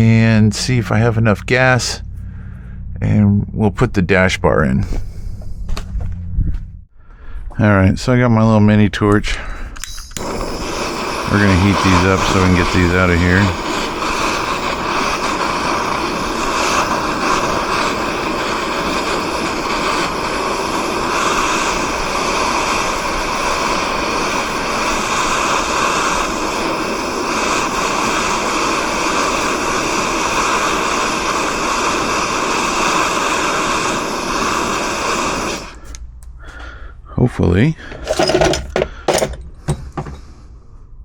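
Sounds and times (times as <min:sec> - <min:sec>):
gas torch flame hissing: 0:00.0 - 0:02.8, 0:09.2 - 0:36.8, 0:37.8 - 0:40.6.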